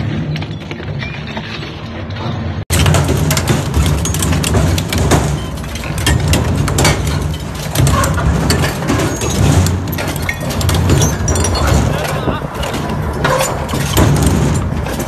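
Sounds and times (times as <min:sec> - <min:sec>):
metal rods cracking and clinking: 0:00.5 - 0:15.0.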